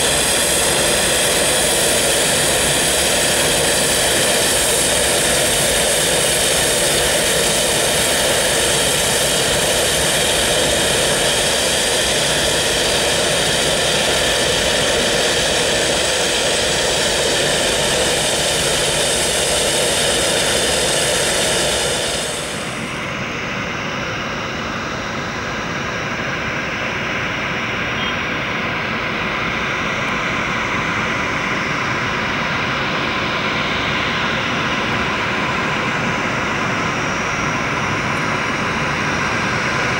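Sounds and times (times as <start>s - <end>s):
jet engines at take-off thrust: 0.0s - 39.9s.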